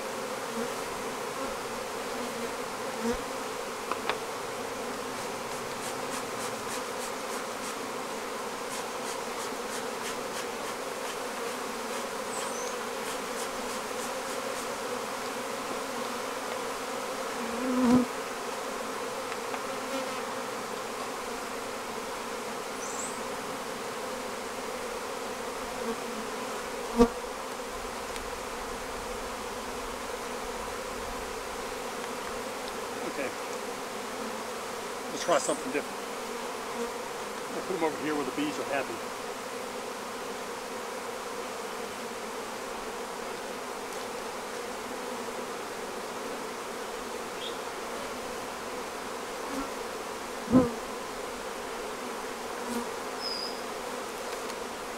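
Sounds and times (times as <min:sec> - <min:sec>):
bees buzzing: 0:00.0 - 0:54.9.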